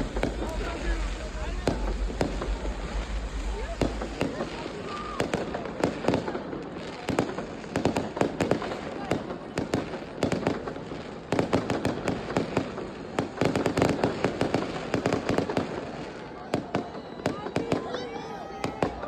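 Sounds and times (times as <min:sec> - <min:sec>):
fireworks cracking and banging: 0:00.0 - 0:19.0.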